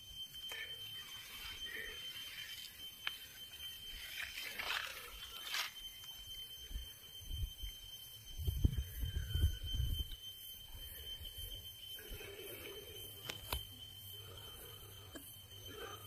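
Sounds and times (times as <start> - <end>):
steady high-pitched tone: 0.0 - 16.0.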